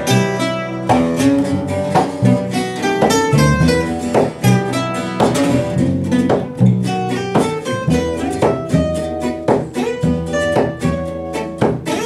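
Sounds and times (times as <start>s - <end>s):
acoustic guitars playing jazz: 0.0s - 12.0s
double bass notes: 0.0s - 12.0s.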